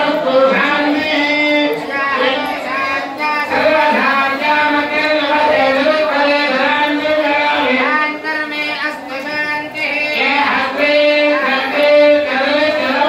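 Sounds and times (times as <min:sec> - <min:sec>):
devotional chanting: 0:00.0 - 0:13.0.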